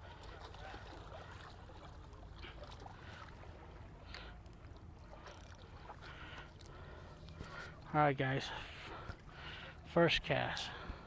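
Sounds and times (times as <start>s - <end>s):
water lapping and splashing: 0.0s - 11.0s.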